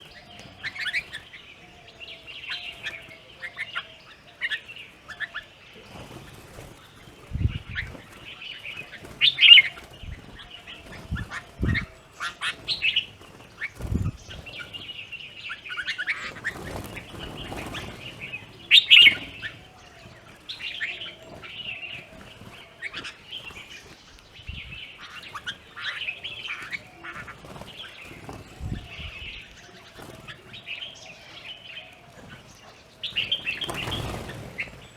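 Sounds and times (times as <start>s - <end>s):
birds chirping and calling: 0.0s - 34.9s
low repeated bird call: 0.0s - 34.9s.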